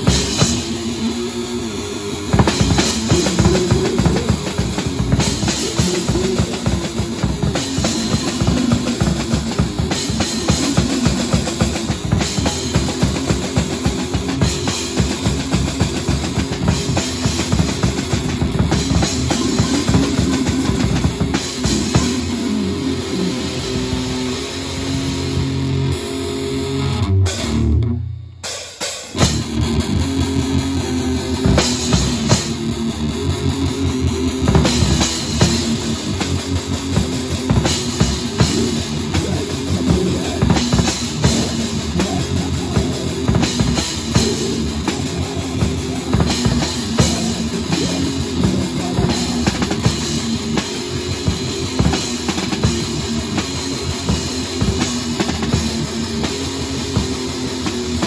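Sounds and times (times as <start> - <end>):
rapid drumming on drum kit: 0.0 - 24.3, 28.5 - 58.0
rock band playing live: 0.0 - 27.9, 28.5 - 58.0.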